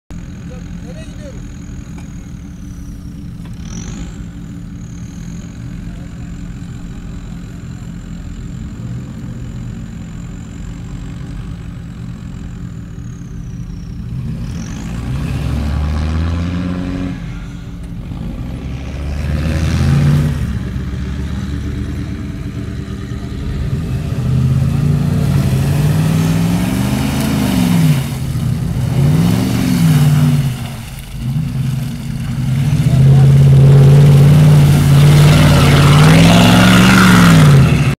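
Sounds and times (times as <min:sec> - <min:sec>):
suv engine revving: 0:00.1 - 0:37.9.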